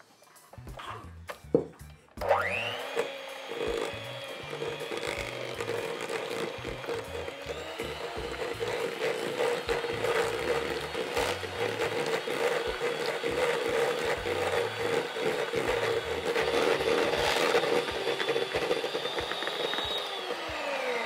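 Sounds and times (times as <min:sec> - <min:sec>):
electric hand mixer running: 0:02.2 - 0:21.0.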